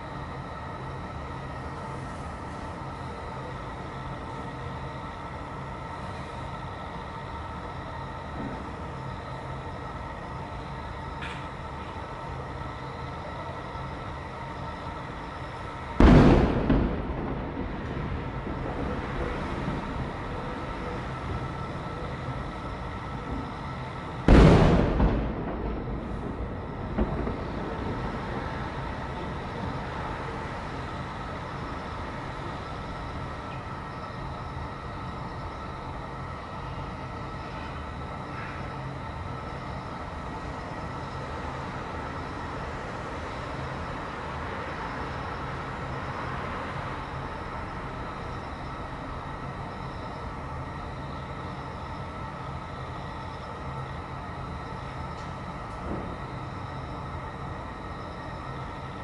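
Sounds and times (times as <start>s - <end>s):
steady background noise: 0.0s - 59.0s
distant fireworks booming: 1.8s - 44.0s, 44.8s - 59.0s.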